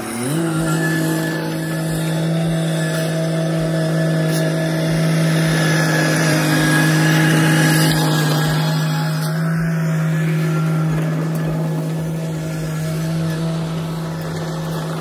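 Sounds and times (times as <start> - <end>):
loader engine droning: 0.0 - 15.0.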